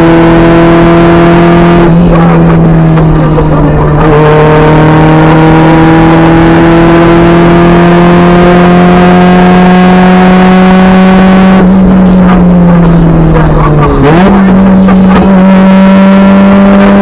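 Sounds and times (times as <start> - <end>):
car engine pulling hard: 0.0 - 17.0.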